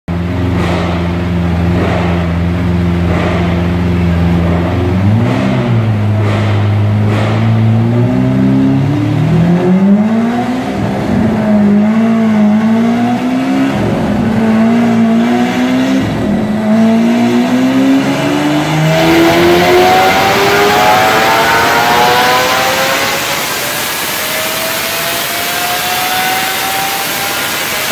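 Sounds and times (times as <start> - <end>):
car engine idling and revving: 0.1 - 27.9.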